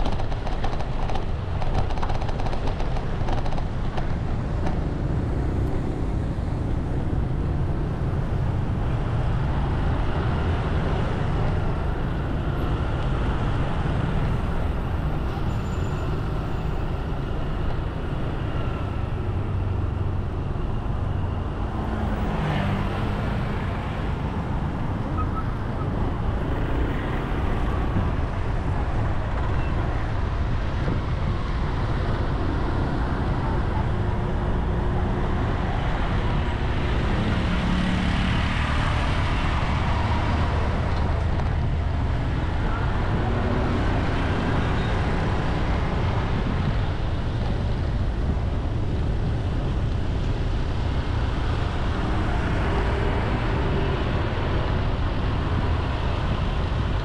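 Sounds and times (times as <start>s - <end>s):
road traffic: 0.0s - 57.0s.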